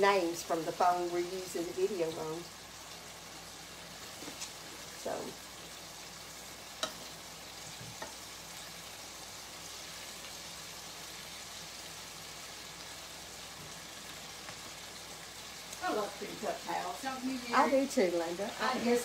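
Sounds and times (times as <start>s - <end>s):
food deep-frying in hot oil: 0.0s - 19.0s.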